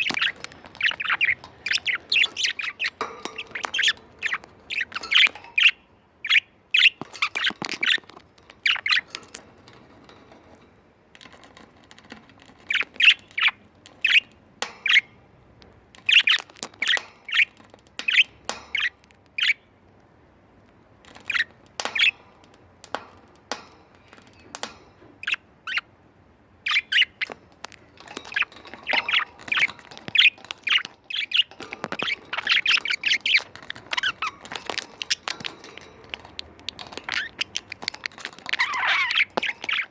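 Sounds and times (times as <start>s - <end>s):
budgerigars chirping and squawking: 0.0s - 10.6s, 11.2s - 15.2s, 16.0s - 19.7s, 21.1s - 25.9s, 26.6s - 39.9s.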